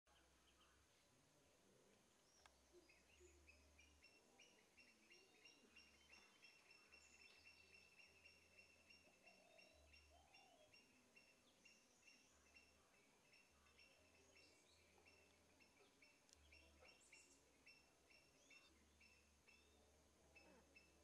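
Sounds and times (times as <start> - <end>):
small birds chirping: 0.1 - 21.0.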